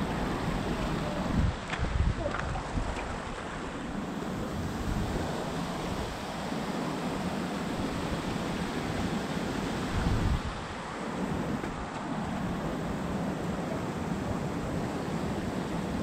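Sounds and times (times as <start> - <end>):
stream flowing over stones: 0.0 - 16.0
wind buffeting microphone: 0.0 - 16.0.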